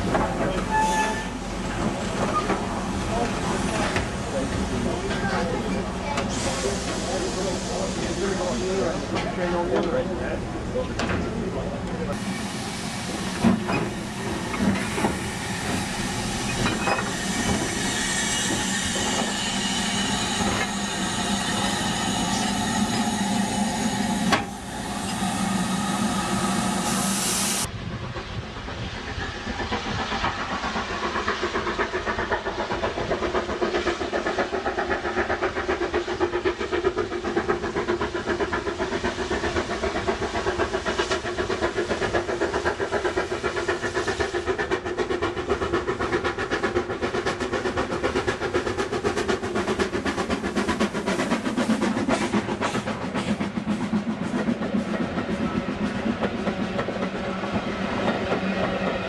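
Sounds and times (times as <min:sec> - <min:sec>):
steam locomotive exhaust beats: 0:00.0 - 0:59.0
steam hissing: 0:00.6 - 0:09.8, 0:12.1 - 0:59.0.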